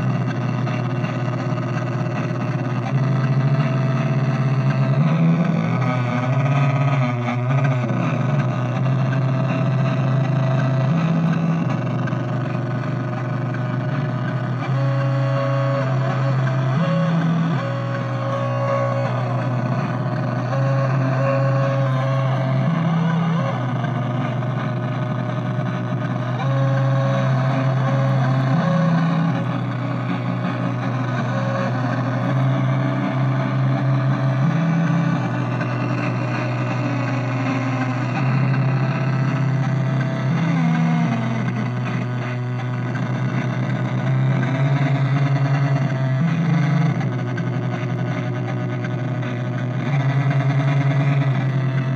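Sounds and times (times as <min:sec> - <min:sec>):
buzzing synthesizer drone: 0:00.0 - 0:51.9
low bass note: 0:00.0 - 0:51.9.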